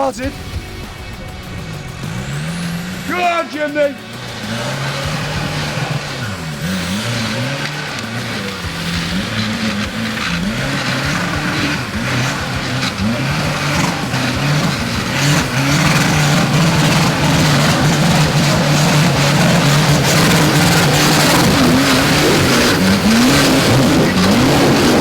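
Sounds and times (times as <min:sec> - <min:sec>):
car engine revving hard: 0:00.0 - 0:25.0.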